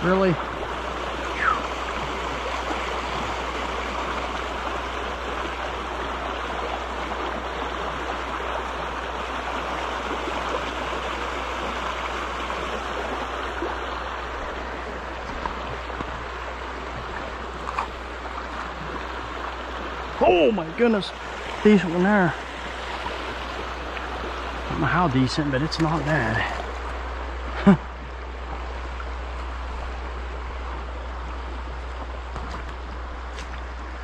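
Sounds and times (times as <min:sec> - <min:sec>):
stream water rushing over rocks: 0:00.0 - 0:34.0.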